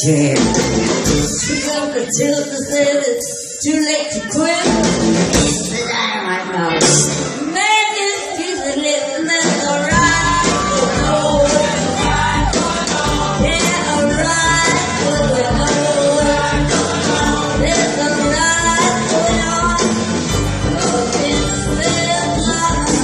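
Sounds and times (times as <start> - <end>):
live rock band playing: 0.0 - 7.7, 8.7 - 23.0.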